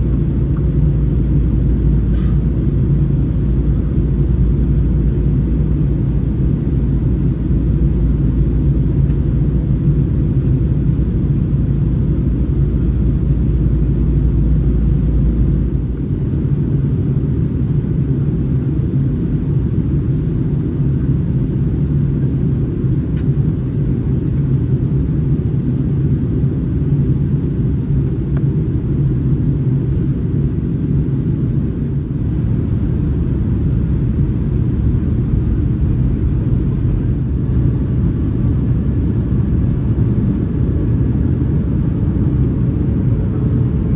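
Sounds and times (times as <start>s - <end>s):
aircraft cabin engine rumble: 0.0s - 43.9s.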